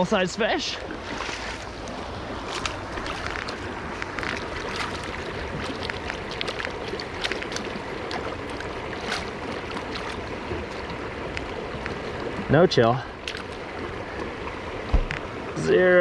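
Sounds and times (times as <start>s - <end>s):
river current rushing: 0.0s - 15.7s.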